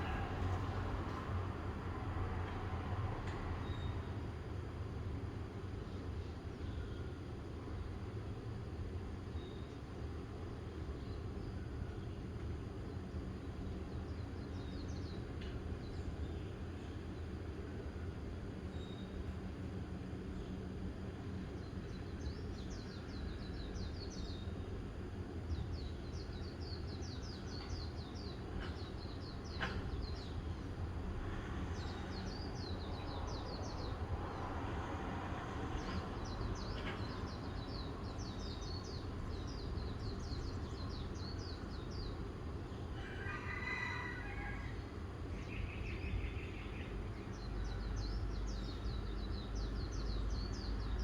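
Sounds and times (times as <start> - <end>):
low outdoor rumble: 0.0 - 9.2, 9.9 - 51.0.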